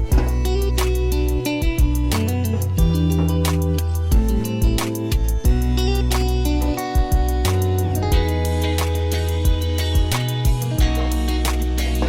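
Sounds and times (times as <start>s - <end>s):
guitar-led music with steady beat: 0.0s - 12.0s.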